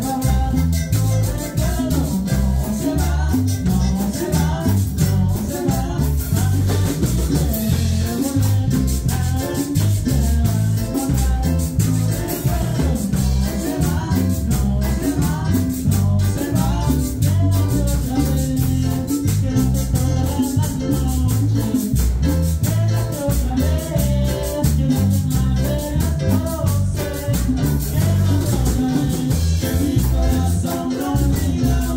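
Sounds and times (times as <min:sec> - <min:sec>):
congas: 0:00.0 - 0:31.9
drum kit: 0:00.0 - 0:31.9
electric bass: 0:00.0 - 0:31.9
electric guitar: 0:00.0 - 0:31.9.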